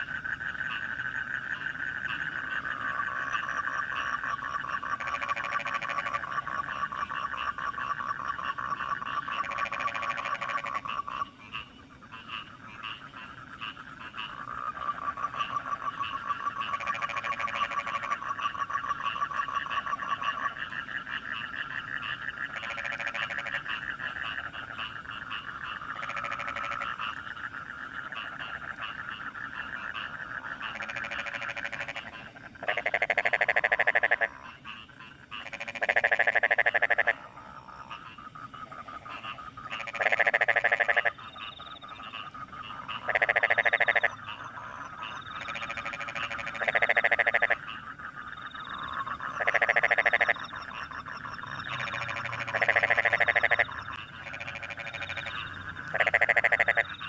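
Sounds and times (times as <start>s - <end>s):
frogs croaking in chorus: 0.0s - 57.0s
loud frog pulsed croaks: 0.0s - 57.0s.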